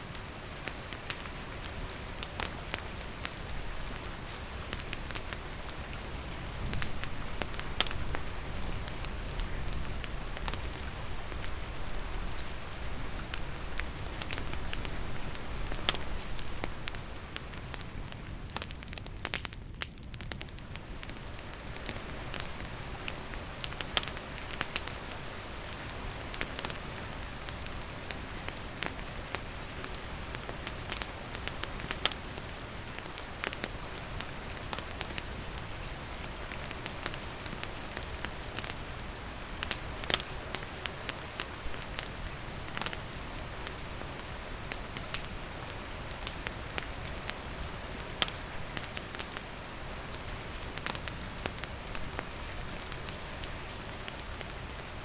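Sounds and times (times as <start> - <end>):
rain falling on surfaces: 0.0 - 55.0
campfire crackling and popping: 0.1 - 55.0.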